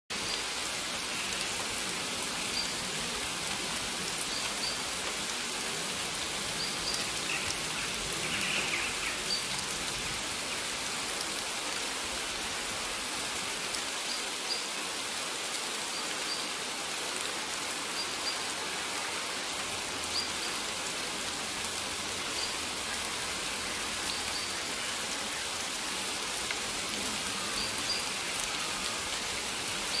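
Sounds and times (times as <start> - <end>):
steady rain: 0.1 - 30.0.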